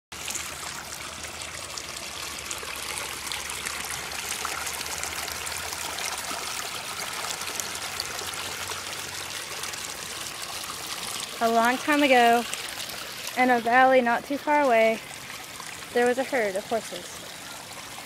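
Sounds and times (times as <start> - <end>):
small water splashes: 0.1 - 18.0
stream trickling over rocks: 0.1 - 18.0.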